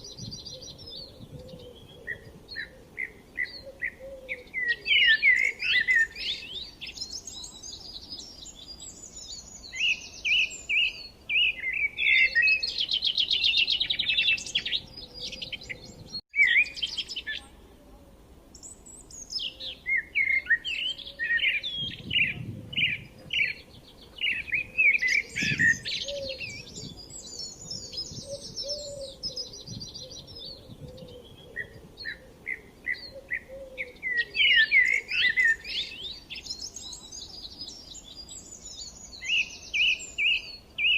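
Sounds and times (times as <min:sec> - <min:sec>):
small songbirds chirping: 0:00.0 - 0:17.7, 0:18.5 - 0:40.9.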